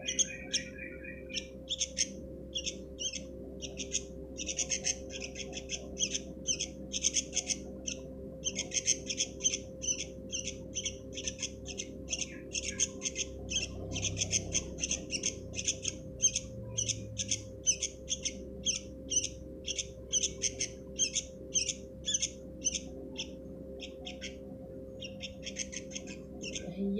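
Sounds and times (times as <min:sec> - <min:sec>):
bird chicks calling: 0:00.0 - 0:26.9
steady low hum: 0:00.0 - 0:26.9.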